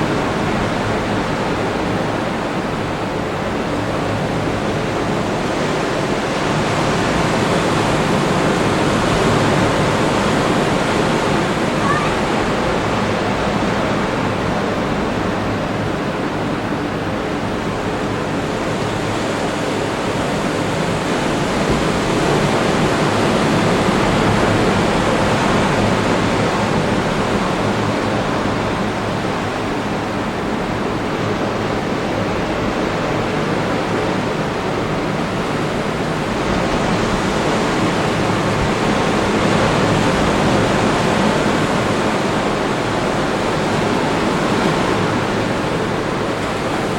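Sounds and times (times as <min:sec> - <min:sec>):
ocean waves breaking on beach: 0:00.0 - 0:46.9.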